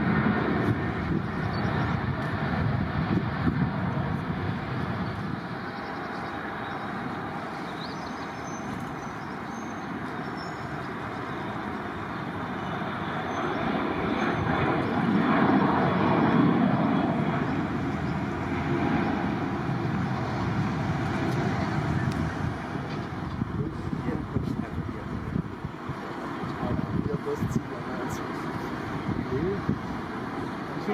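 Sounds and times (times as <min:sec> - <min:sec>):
jet engines rushing: 0:00.0 - 0:30.9.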